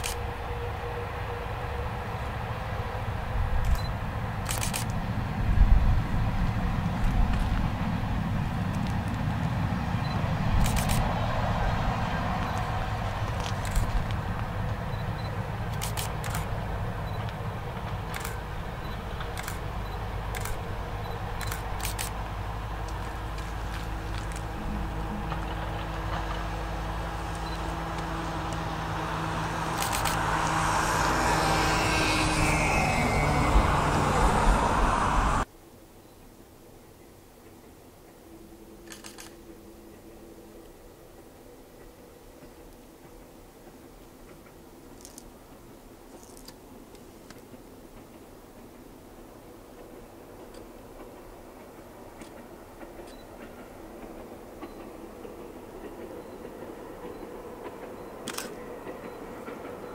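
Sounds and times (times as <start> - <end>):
train rushing: 0.0 - 35.5, 37.3 - 59.9
train engine hum: 0.0 - 59.9.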